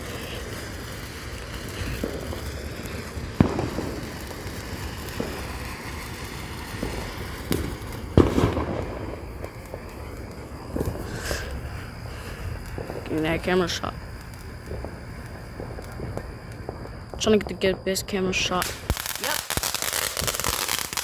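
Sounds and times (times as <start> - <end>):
fireworks bangs and pops: 0.0 - 21.0
fireworks crackle: 0.0 - 21.0.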